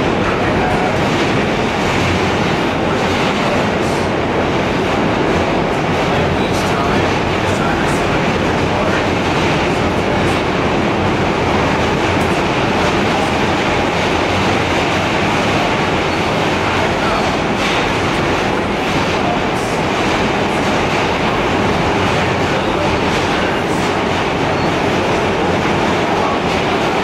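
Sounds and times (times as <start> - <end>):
subway wheels rumbling on rail: 0.0 - 27.0.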